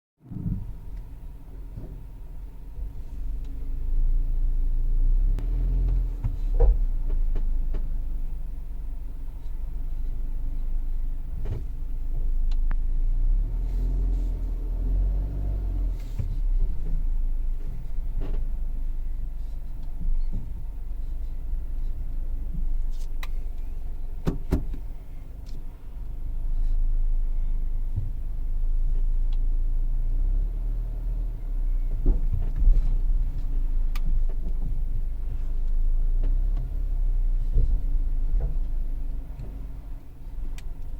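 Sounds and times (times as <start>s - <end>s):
car road and engine rumble: 0.2s - 40.9s.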